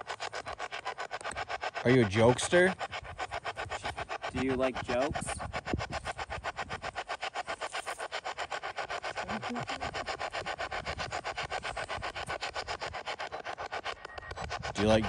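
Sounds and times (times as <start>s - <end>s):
choppy radio static sweeping: 0.0s - 15.0s.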